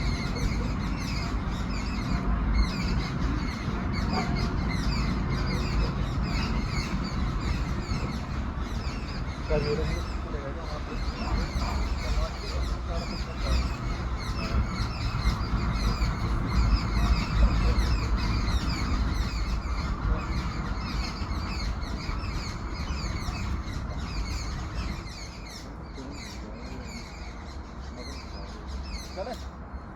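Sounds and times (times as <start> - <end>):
low rumble: 0.0 - 29.9
small birds chirping: 0.0 - 29.9.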